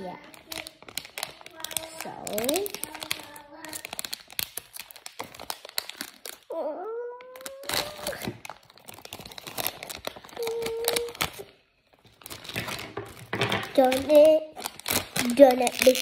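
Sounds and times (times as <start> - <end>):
scissors snipping plastic packaging: 0.4 - 6.4, 7.2 - 11.5, 12.2 - 16.0.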